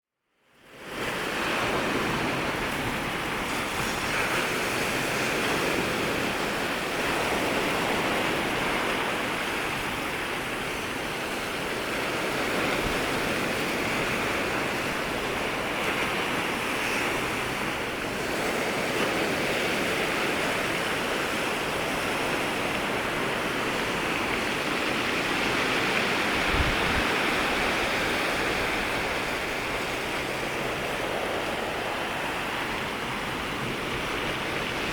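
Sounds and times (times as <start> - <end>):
waves breaking at water's edge: 0.6 - 34.9.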